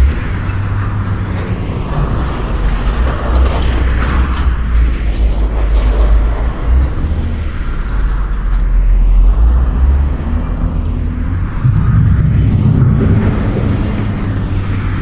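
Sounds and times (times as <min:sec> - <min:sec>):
vehicle low rumble: 0:00.0 - 0:15.0.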